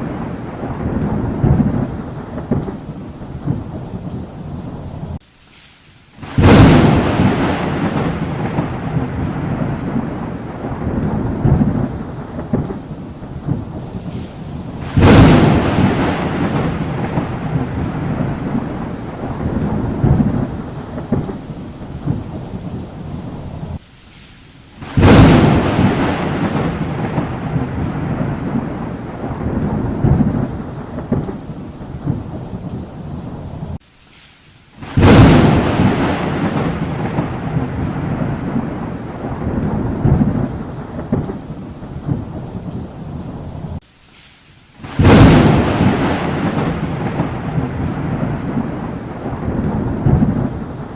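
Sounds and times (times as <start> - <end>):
thunder rumbling: 0.0 - 5.2, 6.2 - 23.8, 24.8 - 33.8, 34.8 - 43.8, 44.8 - 50.9
rain: 0.0 - 50.9.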